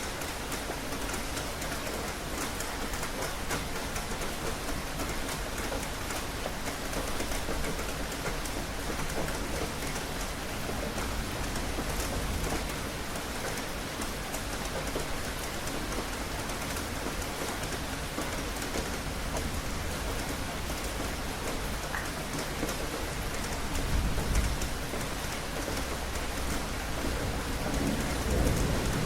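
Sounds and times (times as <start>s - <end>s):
rain on a hard surface: 0.0s - 29.0s.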